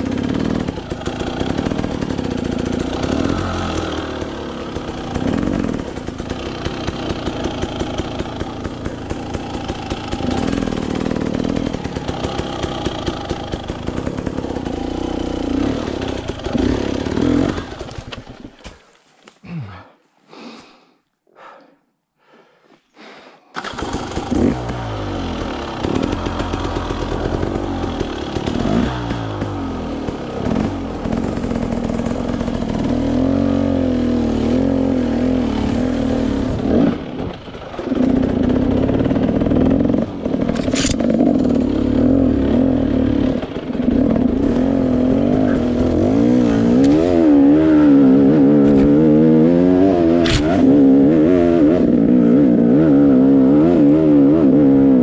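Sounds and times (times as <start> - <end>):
dirt bike engine revving: 0.0 - 18.6, 23.6 - 55.0.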